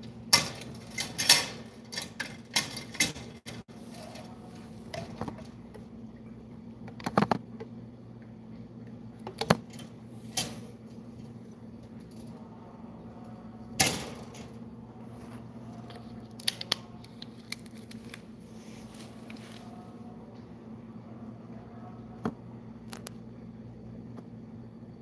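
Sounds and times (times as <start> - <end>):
low hum: 3.7 - 25.0.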